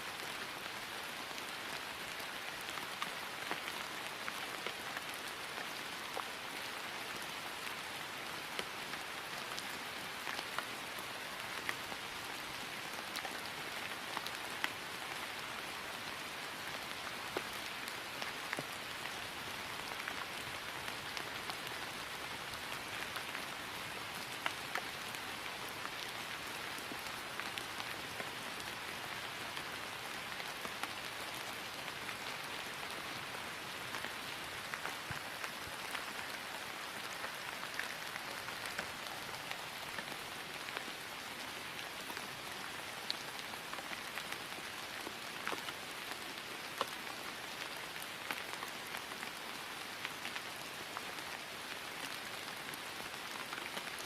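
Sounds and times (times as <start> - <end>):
rain falling on grass: 0.0 - 54.0.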